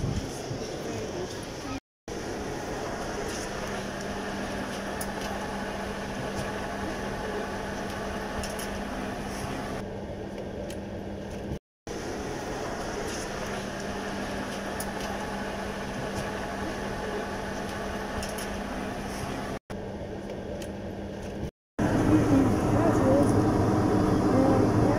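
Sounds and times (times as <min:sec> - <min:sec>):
air-conditioning rush: 0:00.0 - 0:24.9
constant low hum: 0:00.1 - 0:24.9.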